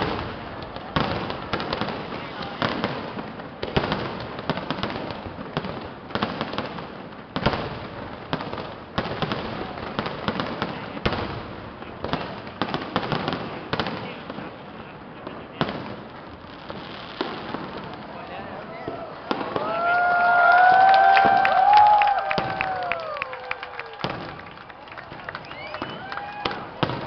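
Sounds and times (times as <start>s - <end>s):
fireworks bangs: 0.0s - 27.0s
fireworks crackle and rumble: 0.0s - 27.0s.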